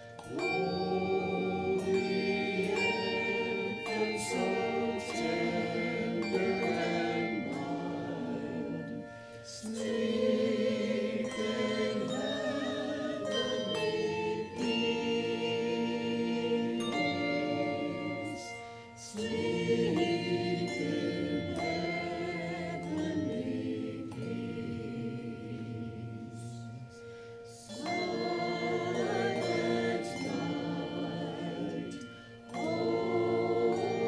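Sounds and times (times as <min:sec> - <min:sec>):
church choir singing: 0:00.0 - 0:34.0.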